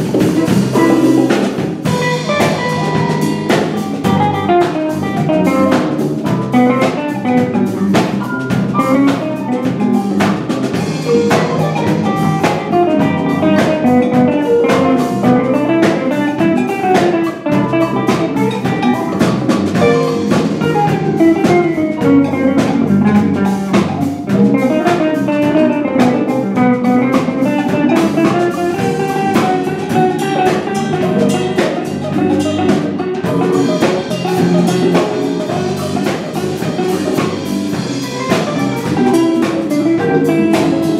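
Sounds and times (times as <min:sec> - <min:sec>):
drum kit beat: 0:00.0 - 0:40.9
electric bass: 0:00.0 - 0:40.9
electric guitar: 0:00.0 - 0:40.9
keyboard: 0:00.0 - 0:40.9.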